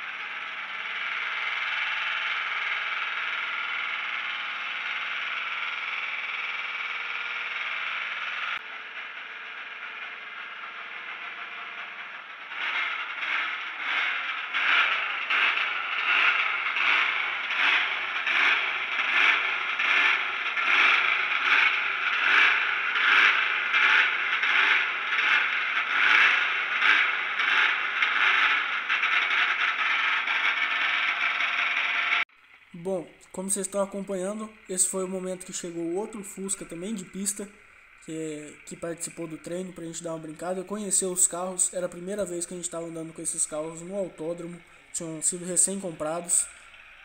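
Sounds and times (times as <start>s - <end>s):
distorted car engine pulsing: 0.0s - 47.0s.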